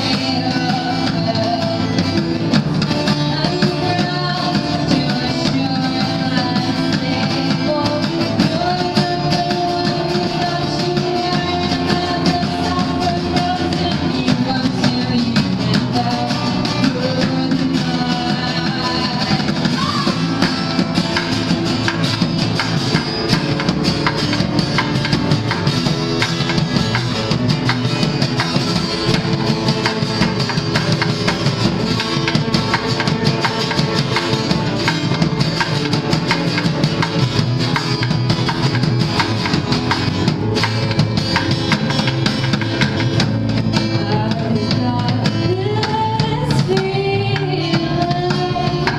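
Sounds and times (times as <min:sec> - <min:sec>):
acoustic guitar: 0:00.0 - 0:48.9
drums and percussion: 0:00.0 - 0:48.9.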